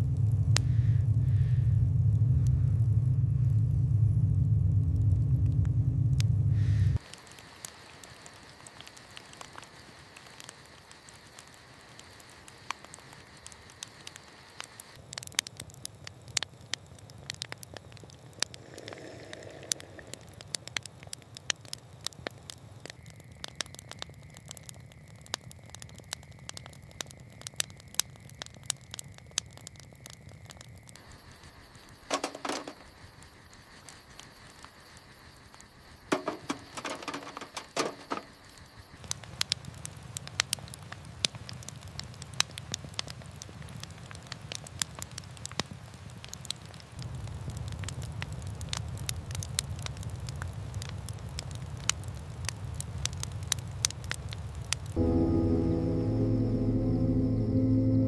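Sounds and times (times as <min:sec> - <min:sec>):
light rain pattering: 0:00.0 - 0:56.7
campfire crackling and popping: 0:00.0 - 0:57.5.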